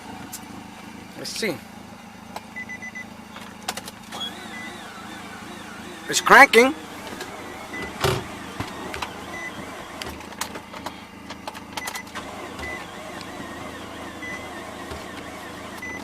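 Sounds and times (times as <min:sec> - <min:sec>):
car engine cranking without starting: 0:00.0 - 0:16.0.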